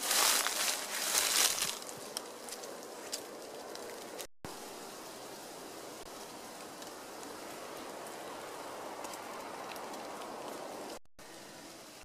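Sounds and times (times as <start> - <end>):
faint outdoor hiss: 0.0 - 12.0
leaves rustling underfoot: 0.0 - 12.0.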